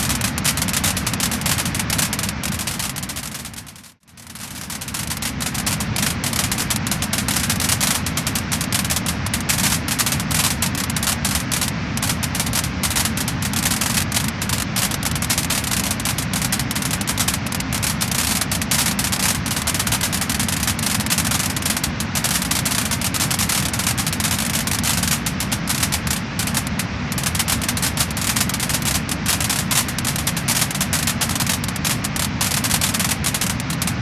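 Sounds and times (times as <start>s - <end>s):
steady rushing noise: 0.0s - 34.0s
wood fire crackling and popping: 0.0s - 34.0s.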